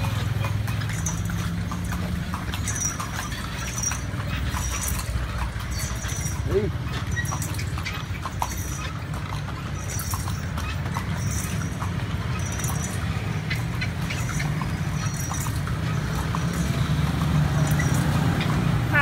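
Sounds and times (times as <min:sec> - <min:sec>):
carriage rumbling: 0:00.0 - 0:19.0
hooves clip-clopping on pavement: 0:00.0 - 0:19.0.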